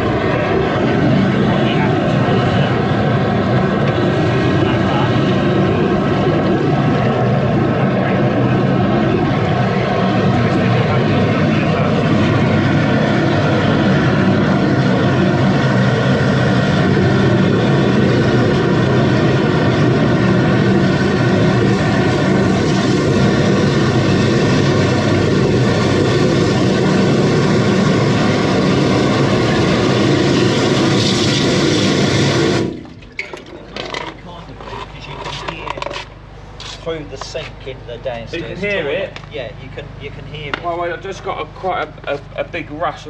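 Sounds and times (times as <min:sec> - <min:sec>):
petrol engine running: 0:00.0 - 0:42.8.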